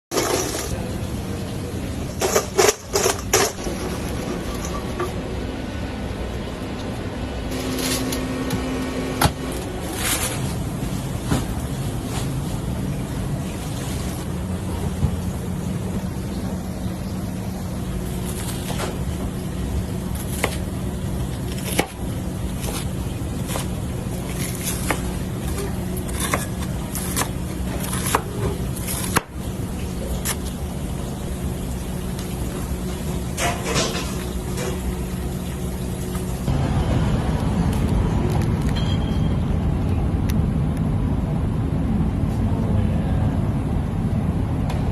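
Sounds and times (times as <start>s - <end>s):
low steady hum: 0.1s - 44.9s.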